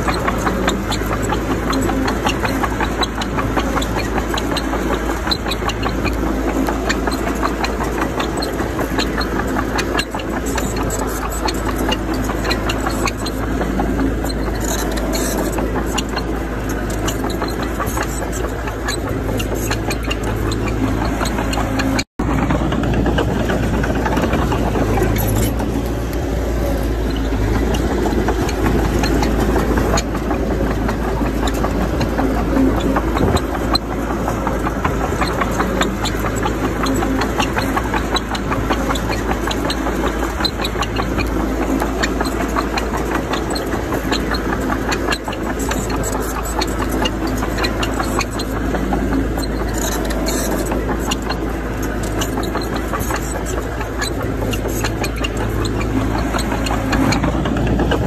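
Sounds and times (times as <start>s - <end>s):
diesel engine of heavy machinery: 0.0s - 58.0s
small clanks and rattles: 0.0s - 58.0s.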